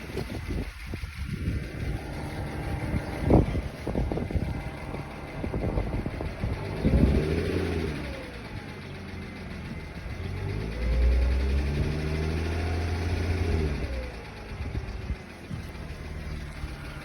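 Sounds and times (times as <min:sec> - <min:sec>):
car engine idling and revving: 0:00.0 - 0:17.0
loud engine ticking: 0:00.0 - 0:17.0.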